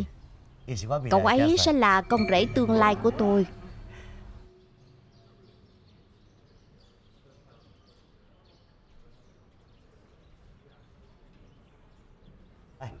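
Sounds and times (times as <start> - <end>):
small birds chirping softly: 0.0 - 13.0.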